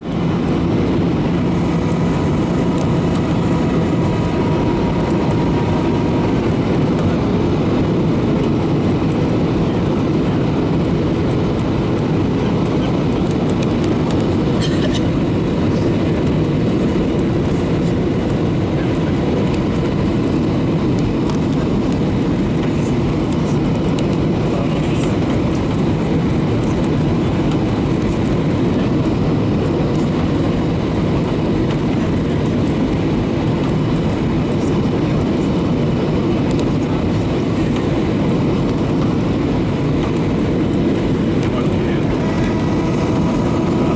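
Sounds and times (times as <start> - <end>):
airplane cabin noise: 0.0 - 43.9.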